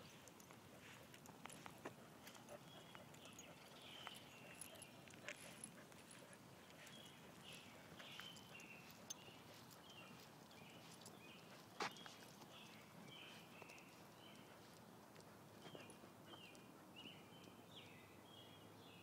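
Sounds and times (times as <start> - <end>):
light footsteps on concrete: 0.0 - 16.5.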